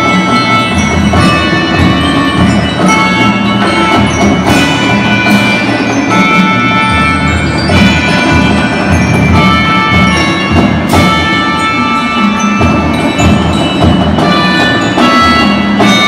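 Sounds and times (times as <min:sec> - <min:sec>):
marching band with brass and drums: 0:00.0 - 0:16.0
ringing bell-like tones: 0:00.0 - 0:16.0.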